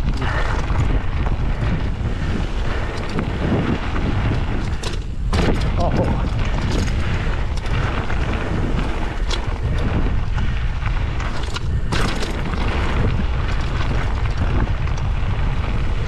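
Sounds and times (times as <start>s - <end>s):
bike tyres rolling on gravel: 0.0s - 16.0s
stones and bike rattling: 0.0s - 16.0s
wind buffeting microphone: 0.0s - 16.0s.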